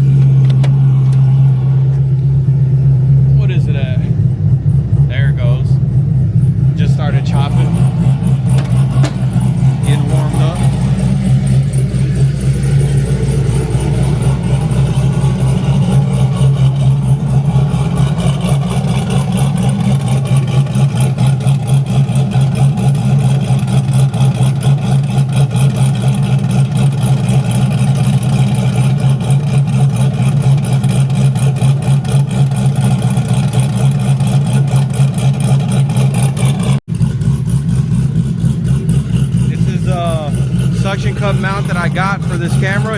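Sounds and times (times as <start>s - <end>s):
car engine with lopey idle: 0.0s - 42.9s.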